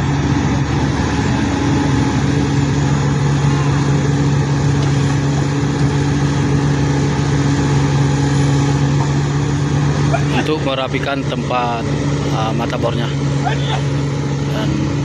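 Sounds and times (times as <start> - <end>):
heavy machinery engine humming: 0.0 - 15.0.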